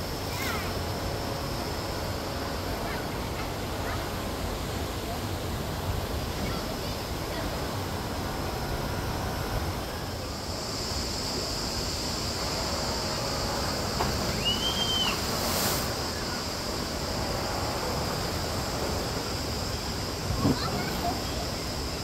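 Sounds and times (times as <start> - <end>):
steady outdoor rushing noise: 0.0 - 22.0.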